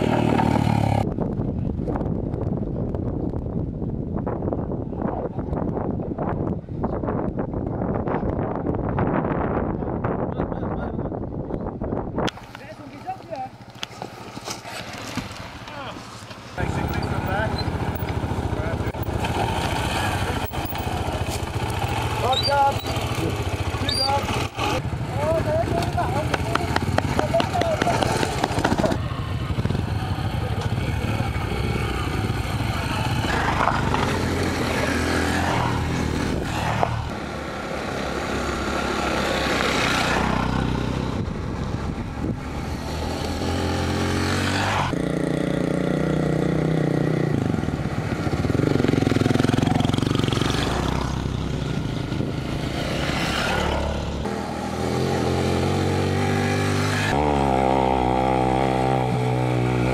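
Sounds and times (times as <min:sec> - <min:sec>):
motorcycles riding past: 0:00.0 - 0:01.1, 0:12.4 - 0:59.9.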